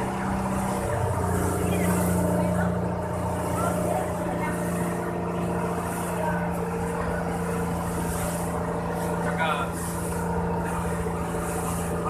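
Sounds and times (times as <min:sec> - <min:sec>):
boat engine drone: 0:00.0 - 0:12.0
water splashing along hull: 0:00.0 - 0:12.0.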